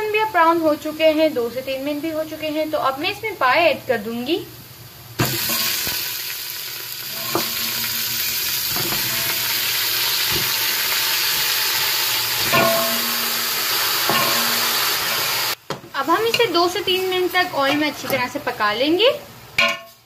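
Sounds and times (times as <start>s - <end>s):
hot oil sizzling: 0.0s - 20.0s.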